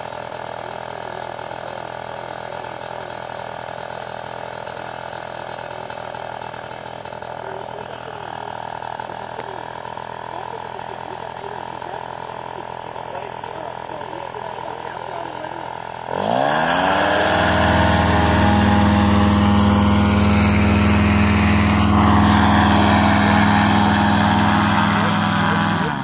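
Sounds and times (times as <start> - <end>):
paraglider engine and propeller: 0.0 - 26.0.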